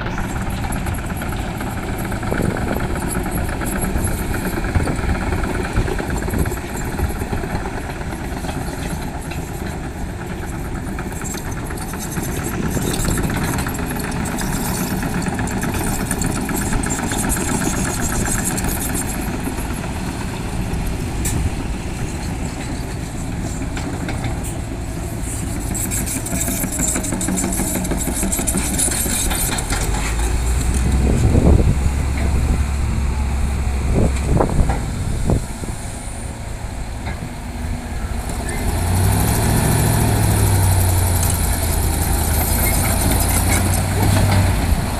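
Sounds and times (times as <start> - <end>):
deep engine drone: 0.0 - 44.9
heavy diesel engines running: 0.0 - 44.9.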